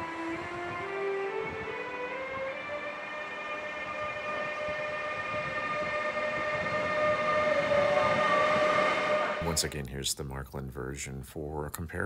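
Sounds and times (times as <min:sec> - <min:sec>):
locomotive inverter whine: 0:00.0 - 0:09.8
rumbling rail noise: 0:00.0 - 0:10.0.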